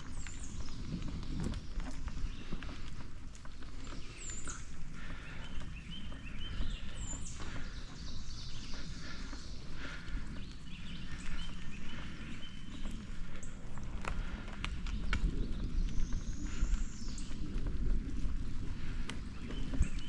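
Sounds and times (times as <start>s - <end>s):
bicycle rumbling on dirt trail: 0.0s - 20.0s
birds chirping and calling: 0.0s - 20.0s.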